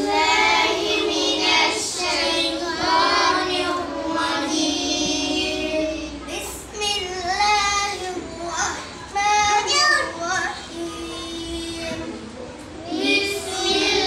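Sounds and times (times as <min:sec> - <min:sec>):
boy chanting recitation: 0:00.0 - 0:14.0.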